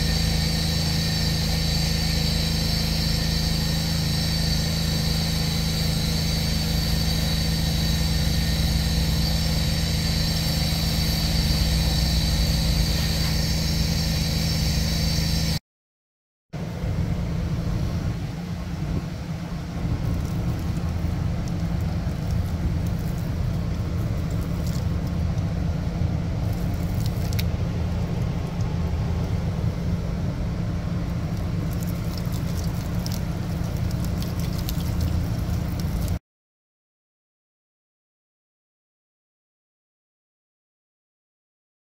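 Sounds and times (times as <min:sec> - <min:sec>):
low engine rumble: 0:00.0 - 0:15.6, 0:16.6 - 0:36.2.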